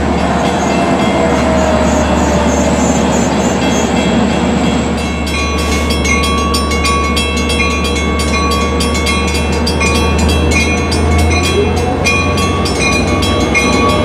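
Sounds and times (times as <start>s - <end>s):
train drone: 0.0s - 14.0s.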